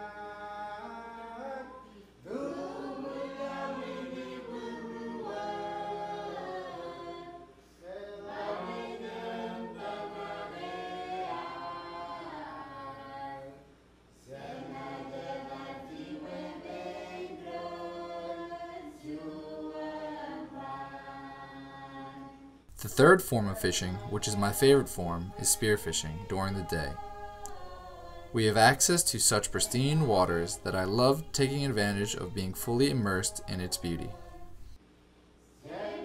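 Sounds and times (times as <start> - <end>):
choir singing: 0.0 - 13.7, 14.3 - 34.8, 35.6 - 36.0.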